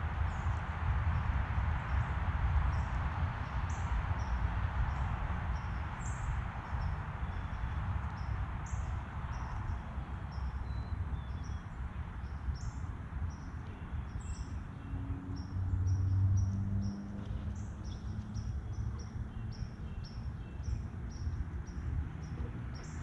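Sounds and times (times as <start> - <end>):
small birds chirping: 1.8 - 23.0.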